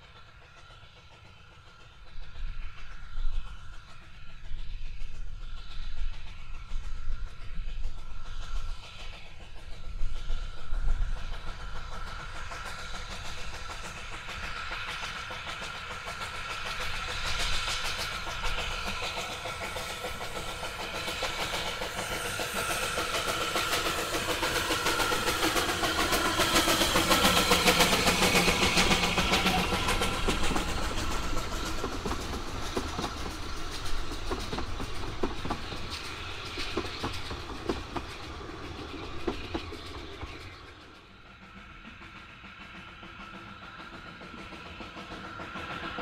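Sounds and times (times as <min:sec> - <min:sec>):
steam train passing: 0:00.0 - 0:46.0
wheels clicking on rails: 0:00.0 - 0:46.0.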